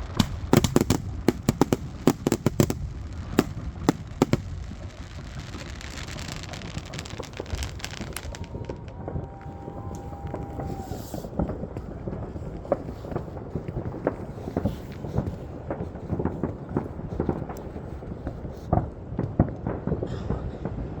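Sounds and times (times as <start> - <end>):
fireworks crackling: 0.0 - 20.0
fireworks bangs: 0.0 - 21.0.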